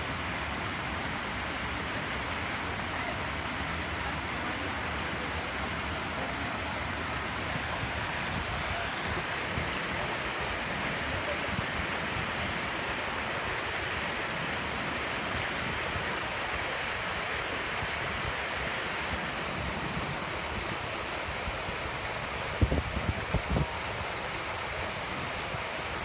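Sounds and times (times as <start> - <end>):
fountain splashing into pond: 0.0 - 26.0
water spilling over weirs: 0.0 - 26.0.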